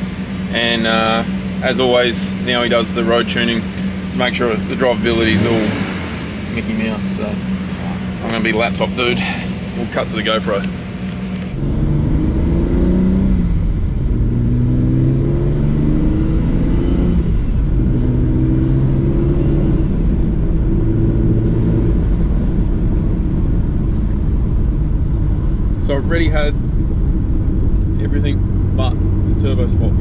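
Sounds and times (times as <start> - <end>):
turbocharged car engine under load: 0.0 - 30.0.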